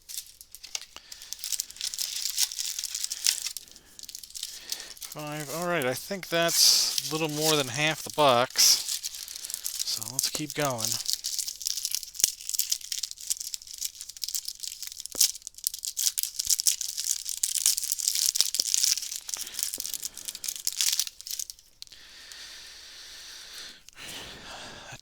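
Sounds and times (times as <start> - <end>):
wrapper being torn and crinkled: 0.0 - 21.9.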